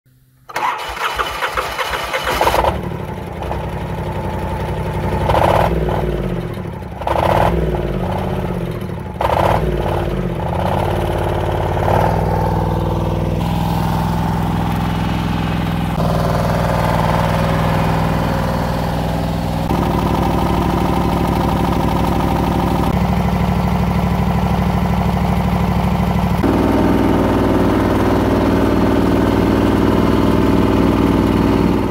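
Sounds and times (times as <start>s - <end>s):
diesel engine revving: 0.5s - 31.9s.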